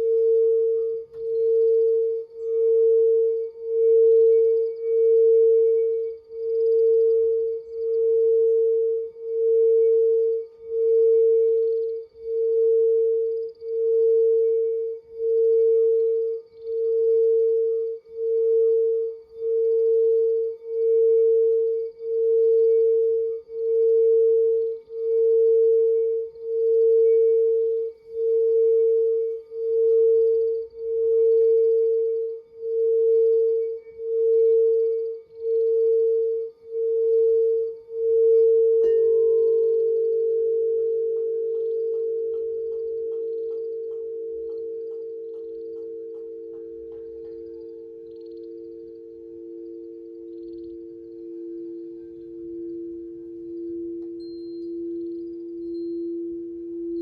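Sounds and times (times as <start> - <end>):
crystal singing bowl tone: 0.0 - 57.0.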